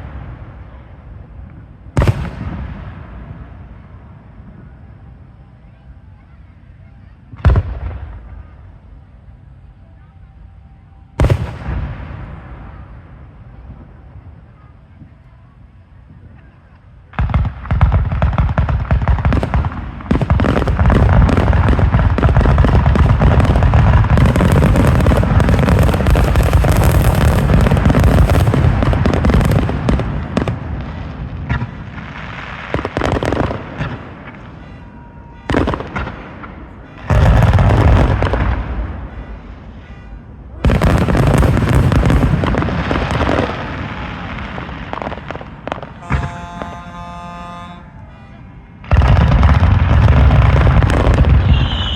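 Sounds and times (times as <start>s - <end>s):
fireworks booming and crackling: 0.0s - 51.9s.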